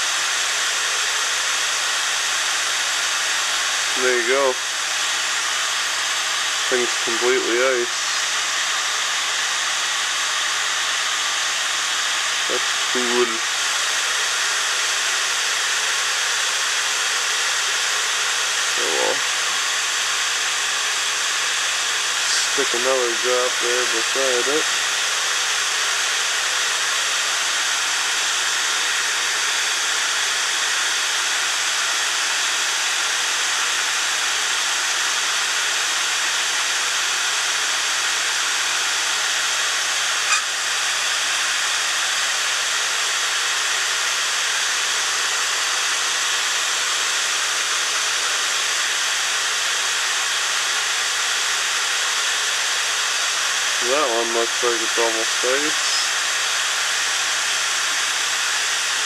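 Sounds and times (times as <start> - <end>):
blower fan whooshing: 0.0 - 59.0.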